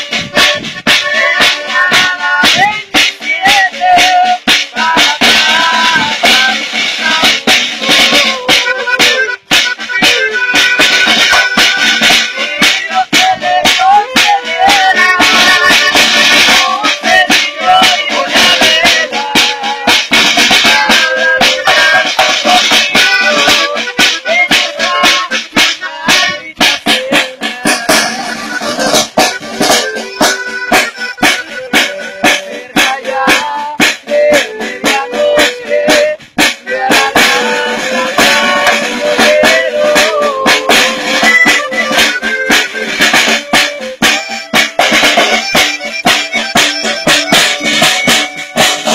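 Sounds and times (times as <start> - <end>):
saxophone: 0.0 - 3.0, 6.3 - 13.6, 14.3 - 26.5, 27.9 - 32.9, 34.1 - 48.9
button accordion: 0.0 - 48.9
snare drum beat: 0.0 - 48.9.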